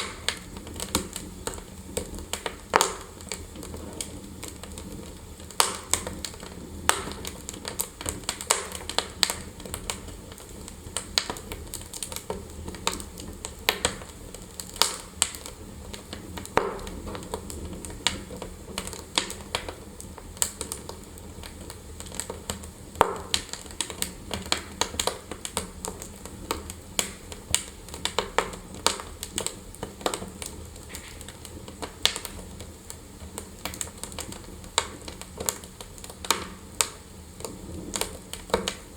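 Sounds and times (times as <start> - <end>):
fireplace fire crackling: 0.0 - 38.9
low steady hiss: 0.0 - 38.9.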